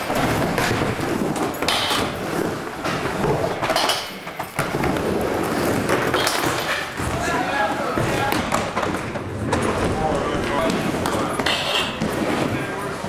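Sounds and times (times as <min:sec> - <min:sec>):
skateboard wheels rolling on wood: 0:00.0 - 0:13.0.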